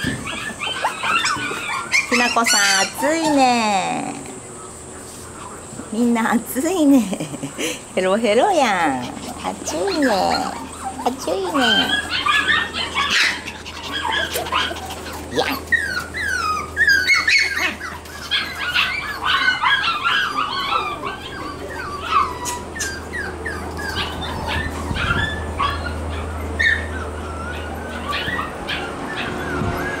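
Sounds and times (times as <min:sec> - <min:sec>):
puppies whining and yipping: 0:00.0 - 0:04.8, 0:08.4 - 0:30.0.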